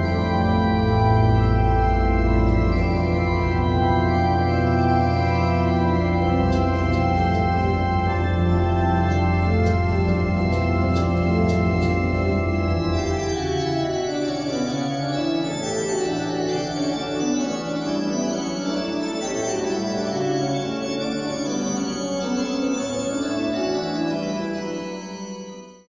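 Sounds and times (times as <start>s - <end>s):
organ playing: 0.0s - 25.9s.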